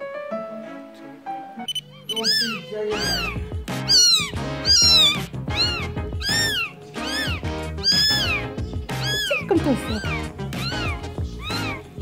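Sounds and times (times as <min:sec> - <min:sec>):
background music: 0:00.0 - 0:12.0
kitten mewing: 0:02.0 - 0:11.9.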